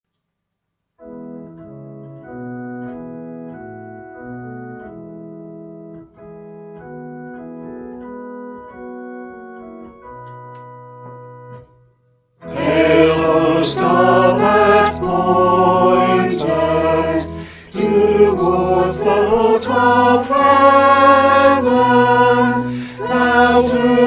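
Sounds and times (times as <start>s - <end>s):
organ playing slow chords: 1.0s - 11.7s, 12.4s - 24.0s.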